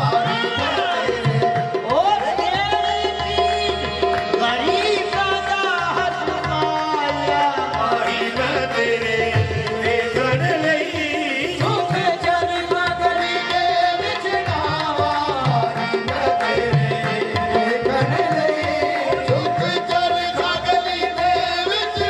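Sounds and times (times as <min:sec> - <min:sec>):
harmonium drone: 0:00.0 - 0:22.0
lead voices singing: 0:00.0 - 0:22.0
tabla beat: 0:00.0 - 0:22.0.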